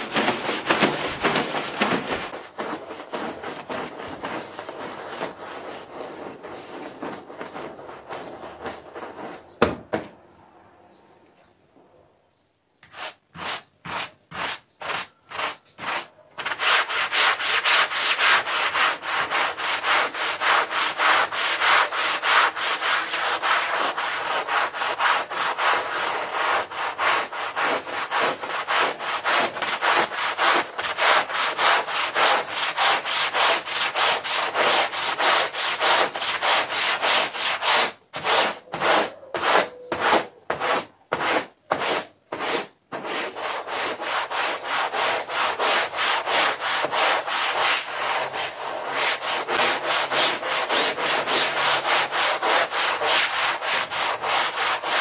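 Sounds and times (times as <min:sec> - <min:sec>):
broom scrubbing wet carpet: 0:00.0 - 0:09.5, 0:12.8 - 0:55.0.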